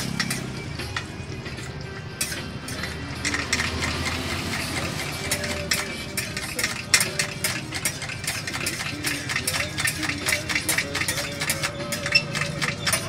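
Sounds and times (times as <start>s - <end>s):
metal spatula scraping pan: 0.0s - 13.0s.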